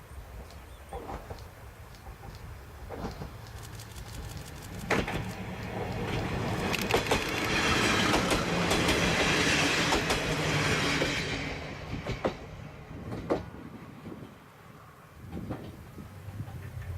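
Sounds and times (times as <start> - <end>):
wheels clacking over rail joints: 0.9 - 14.4, 15.2 - 16.9.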